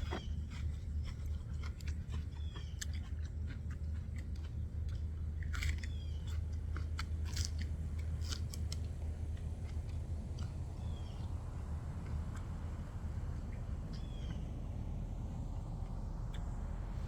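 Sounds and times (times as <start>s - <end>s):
person chewing and crunching food: 0.0s - 14.6s
steady low rumble: 0.0s - 17.0s.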